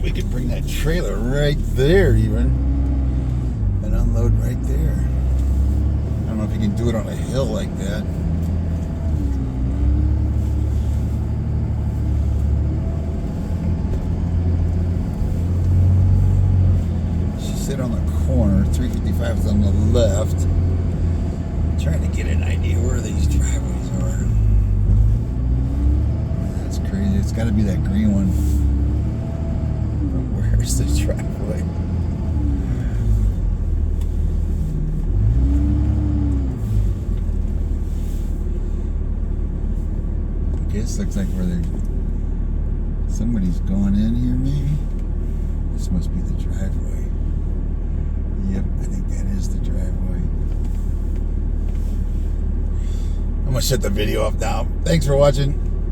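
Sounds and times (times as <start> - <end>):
vehicle engine and road rumble: 0.0 - 55.9.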